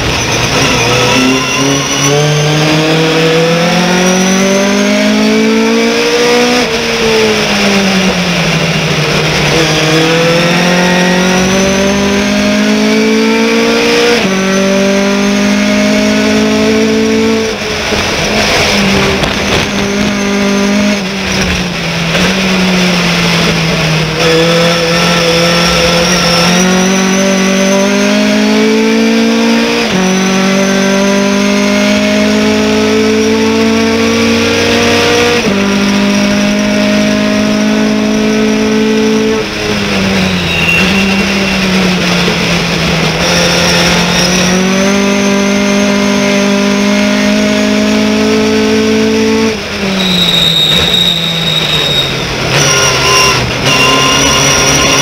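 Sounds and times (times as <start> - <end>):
truck engine accelerating: 0.0 - 55.0
wind and road noise: 0.0 - 55.0.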